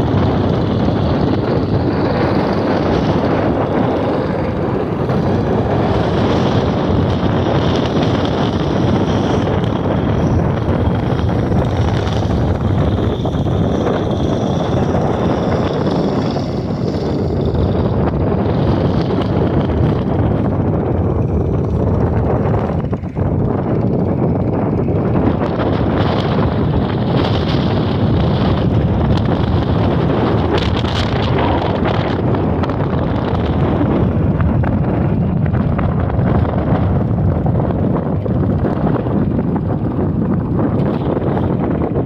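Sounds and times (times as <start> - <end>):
boat engine drone: 0.0 - 42.0
wind buffeting microphone: 0.0 - 42.0.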